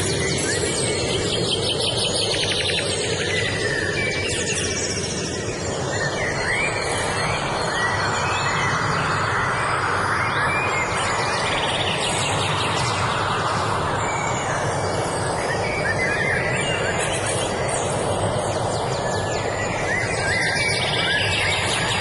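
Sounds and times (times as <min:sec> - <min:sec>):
birds chirping: 0:00.0 - 0:22.0
steady rushing noise: 0:00.0 - 0:22.0.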